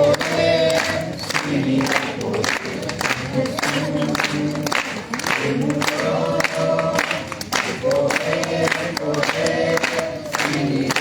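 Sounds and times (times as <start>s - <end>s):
group of voices singing: 0.0s - 11.0s
hands clapping: 0.0s - 11.0s.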